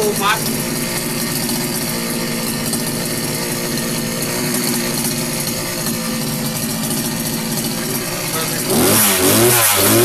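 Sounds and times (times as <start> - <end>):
strimmer engine running: 0.0 - 10.0.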